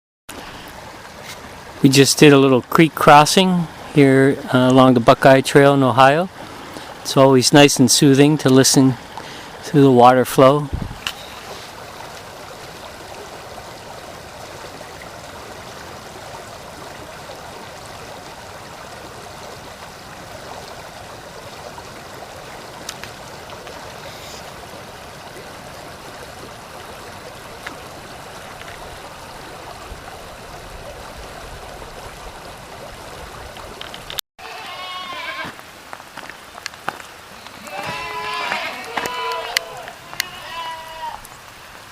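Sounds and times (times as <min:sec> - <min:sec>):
creek water rushing and gurgling: 0:00.3 - 0:41.9.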